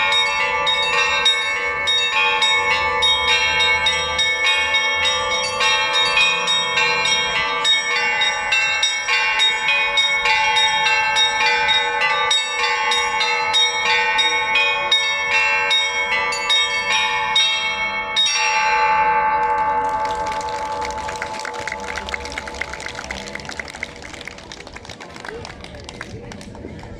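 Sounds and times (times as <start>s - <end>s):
church bells pealing: 0.0s - 23.6s.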